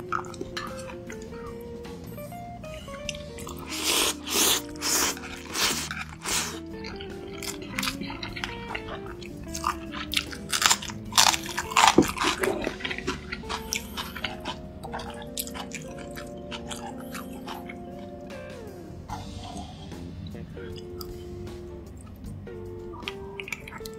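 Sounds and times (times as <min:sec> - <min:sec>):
crunchy chewing: 0:00.0 - 0:01.6, 0:03.0 - 0:20.0, 0:20.6 - 0:21.3, 0:22.8 - 0:23.9
background music: 0:00.0 - 0:23.9.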